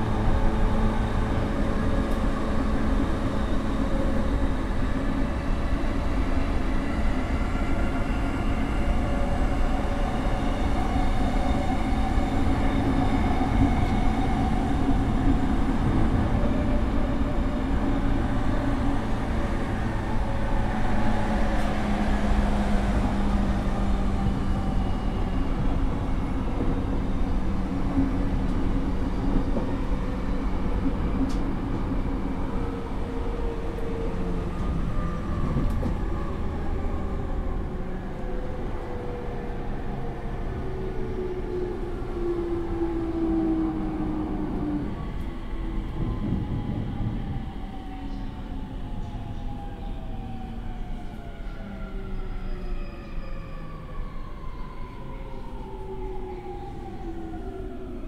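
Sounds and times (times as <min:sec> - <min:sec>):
train wheels and motors rumbling: 0:00.0 - 0:58.0.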